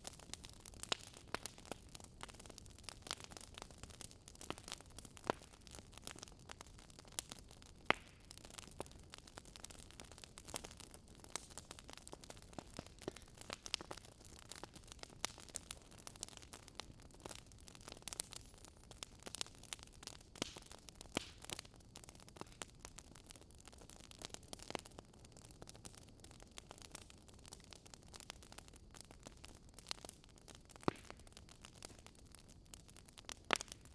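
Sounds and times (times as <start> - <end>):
fire pops and snaps: 0.0 - 33.9
low fire hiss: 0.0 - 33.9
wood fire crackling: 0.0 - 33.9.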